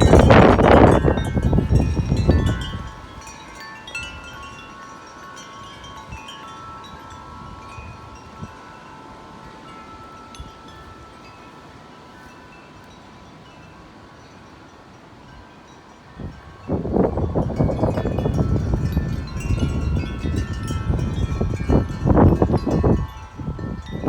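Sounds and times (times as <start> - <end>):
wind buffeting microphone: 0.0 - 11.4, 16.1 - 24.0
tubular wind chimes ringing: 0.0 - 24.0.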